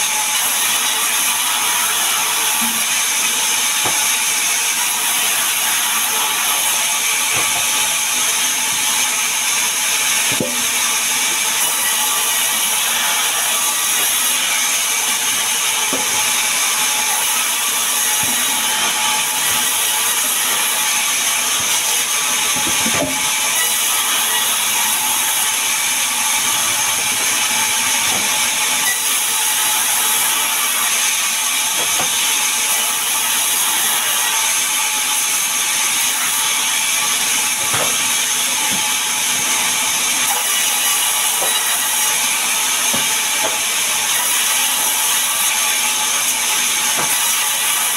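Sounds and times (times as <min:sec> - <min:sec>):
band saw whining: 0:00.0 - 0:47.9.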